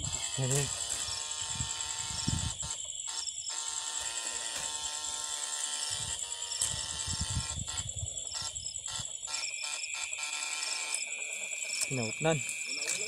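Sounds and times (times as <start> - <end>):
electric buzz with high whine: 0.0 - 13.0.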